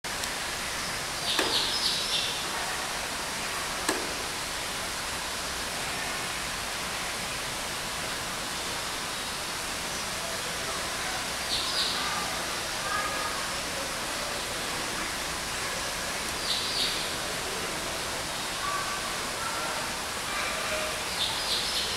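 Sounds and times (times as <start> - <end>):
steady background hiss: 0.1 - 21.9.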